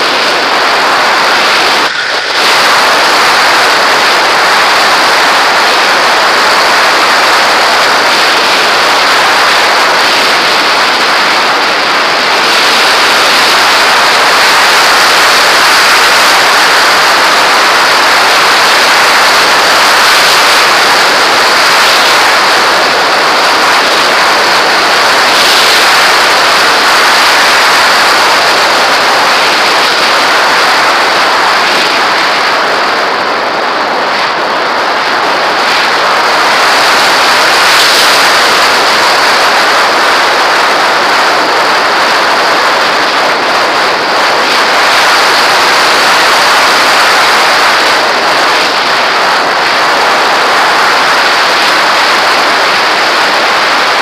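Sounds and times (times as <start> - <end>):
wind noise rushing: 0.0 - 54.0.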